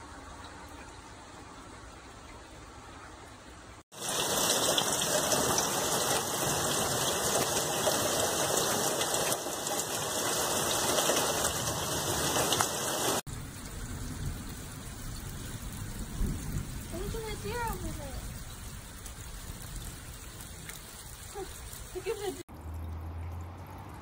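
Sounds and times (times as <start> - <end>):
heavy rain: 3.9 - 23.4.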